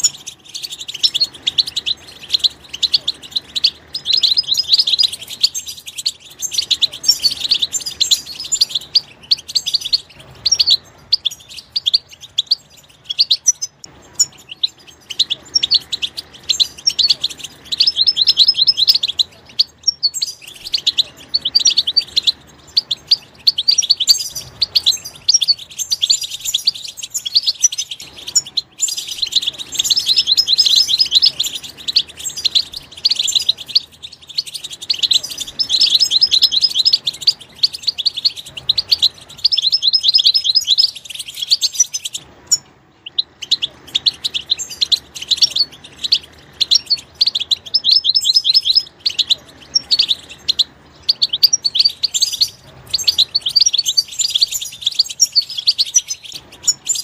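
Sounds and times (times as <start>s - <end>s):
goldfinch twittering: 0.0s - 57.0s.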